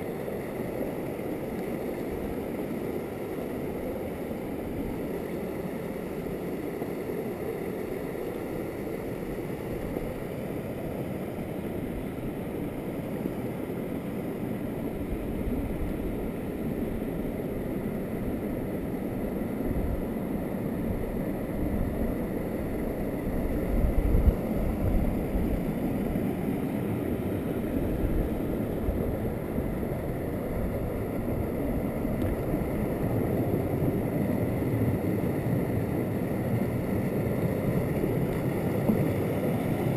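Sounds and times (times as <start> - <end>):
stream rushing over waterfall: 0.0 - 39.9.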